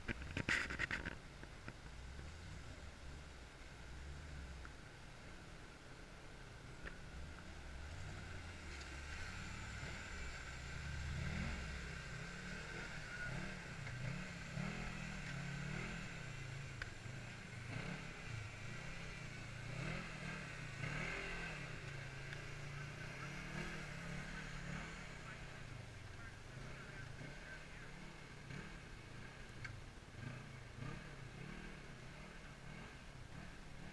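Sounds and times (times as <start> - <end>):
utility vehicle engine revving: 0.0 - 33.9.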